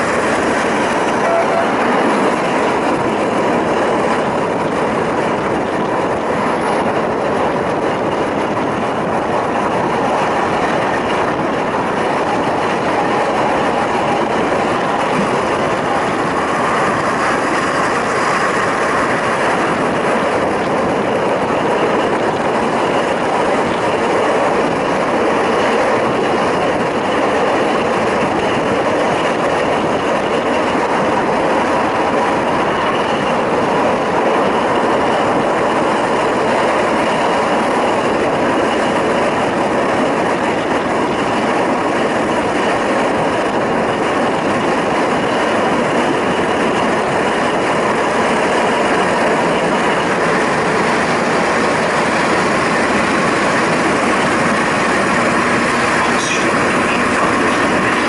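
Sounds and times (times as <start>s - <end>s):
railcar wheels and engine: 0.0s - 58.0s.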